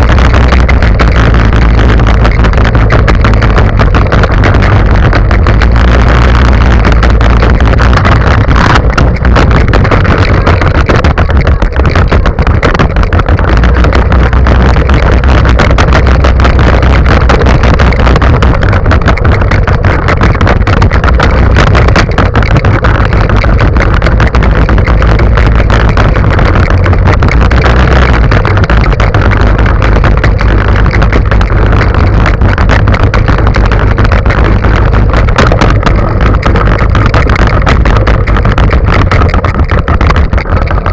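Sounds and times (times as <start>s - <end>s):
go-kart engine running: 0.0s - 40.9s
kart rattling over bumps: 0.0s - 40.9s.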